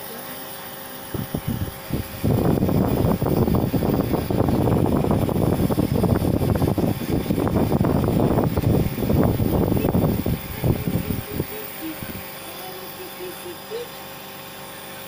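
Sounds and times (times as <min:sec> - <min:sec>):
nebulizer compressor buzzing: 0:00.0 - 0:15.0
mist hissing: 0:01.1 - 0:15.0.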